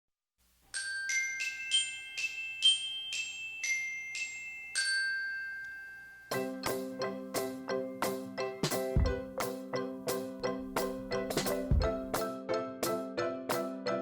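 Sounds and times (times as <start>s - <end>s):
glockenspiel melody: 0.7s - 12.5s.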